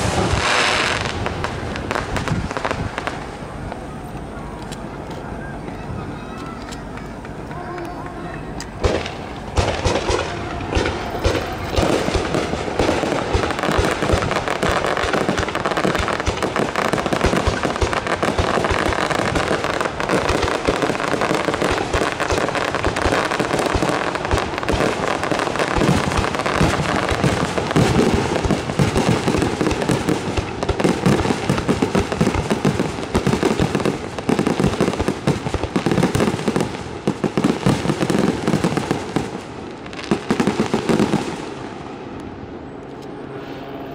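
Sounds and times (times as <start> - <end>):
fireworks bursting and crackling: 0.0 - 42.5.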